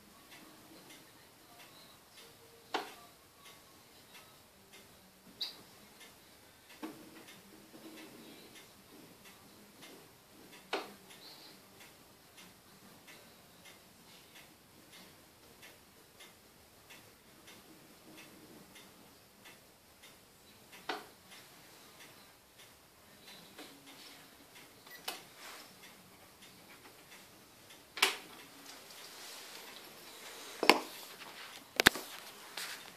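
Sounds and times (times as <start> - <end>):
faint steady ticking: 0.0 - 32.9.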